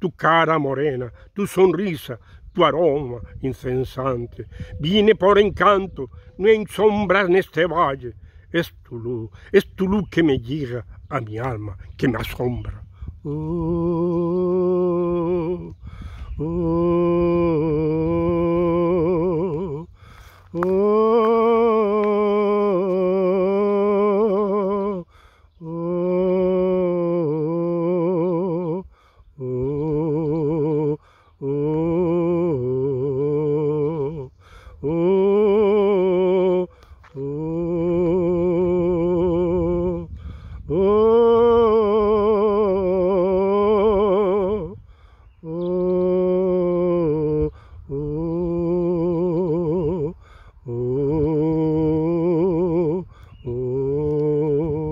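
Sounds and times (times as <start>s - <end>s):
person singing wordless notes: 0.0s - 44.8s, 45.4s - 54.9s.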